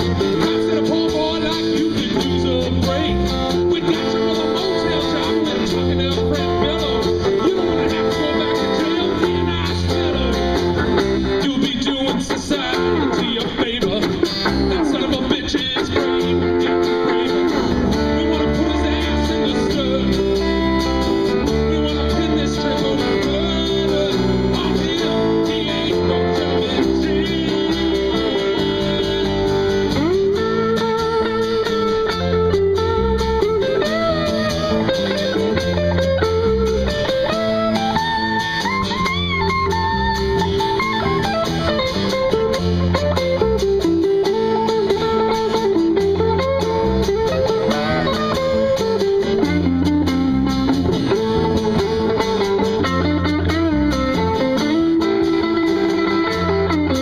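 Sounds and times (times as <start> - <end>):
guitar sliding bending notes: 0.0 - 57.0
live band playing: 0.0 - 57.0.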